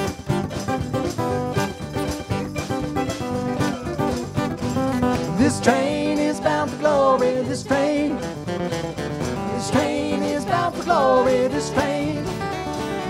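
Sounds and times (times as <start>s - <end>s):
live country band playing: 0.0s - 13.0s.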